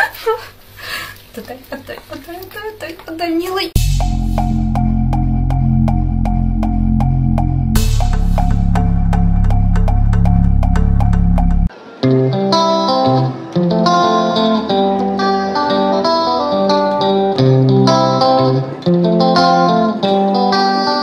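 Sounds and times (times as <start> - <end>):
plucked guitar melody: 3.8 - 21.0.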